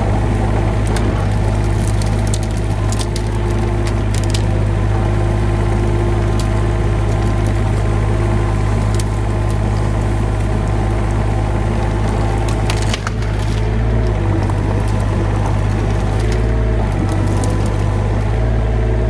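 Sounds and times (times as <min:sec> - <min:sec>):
heavy machine engine running: 0:00.0 - 0:19.0
wood cracking and snapping: 0:00.0 - 0:19.0.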